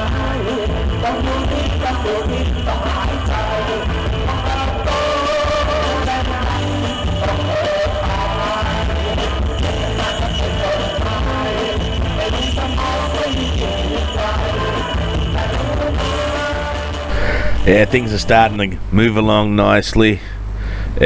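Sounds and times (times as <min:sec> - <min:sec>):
live rock band playing: 0:00.0 - 0:17.2
person singing: 0:00.0 - 0:18.3
heavy bass: 0:00.0 - 0:19.7.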